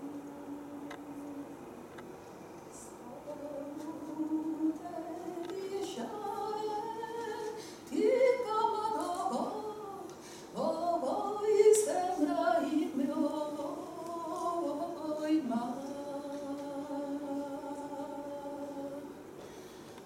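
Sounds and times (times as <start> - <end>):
woman singing unaccompanied: 0.0 - 1.6, 2.8 - 19.2.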